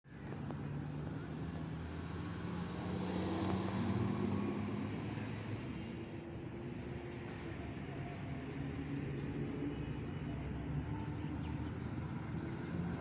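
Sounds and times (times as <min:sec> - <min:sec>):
low engine drone: 0:00.1 - 0:13.0.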